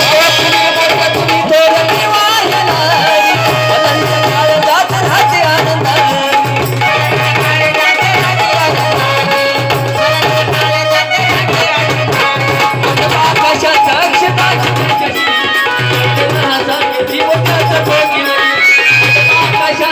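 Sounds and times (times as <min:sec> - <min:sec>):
hand drums: 0:00.0 - 0:19.9.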